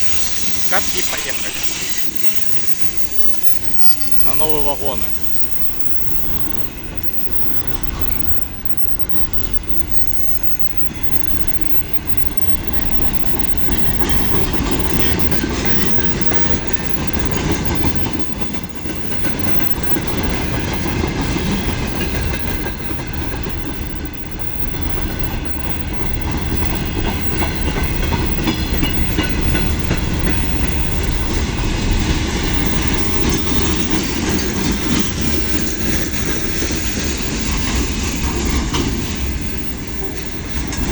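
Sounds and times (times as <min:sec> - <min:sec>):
freight train wheels clattering: 0:00.0 - 0:40.9
wheel squeal: 0:00.0 - 0:40.9.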